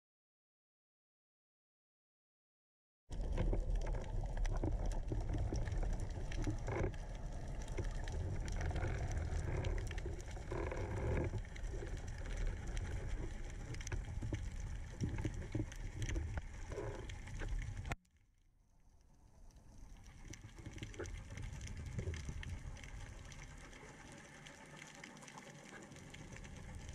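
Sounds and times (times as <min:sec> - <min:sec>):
underwater water rumble: 0:03.1 - 0:18.0, 0:18.8 - 0:26.9
clicks and crackles: 0:03.1 - 0:18.3, 0:19.5 - 0:26.9.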